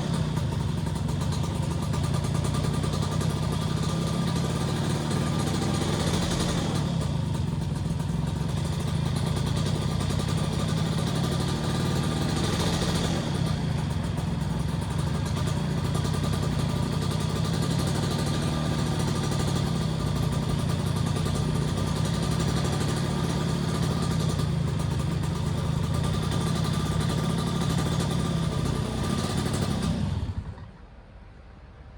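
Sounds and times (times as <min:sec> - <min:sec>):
motorcycle engine idling unevenly: 0:00.0 - 0:31.6.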